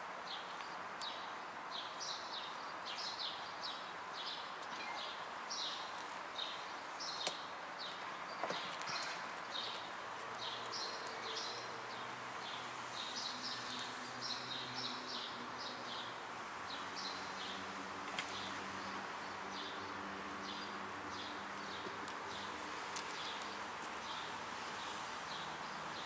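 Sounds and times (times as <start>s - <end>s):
outdoor background hiss: 0.0s - 26.0s
small birds chirping: 0.2s - 26.0s.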